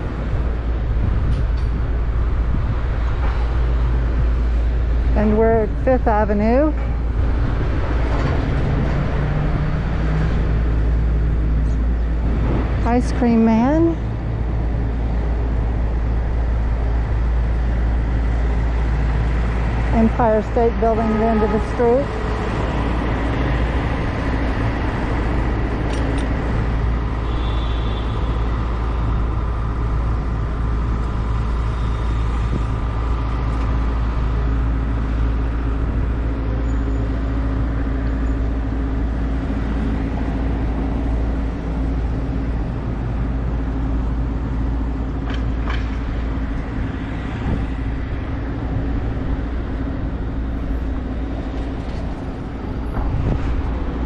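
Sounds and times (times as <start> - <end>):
engine hum: 0.0 - 54.0
street traffic rumble: 0.0 - 54.0.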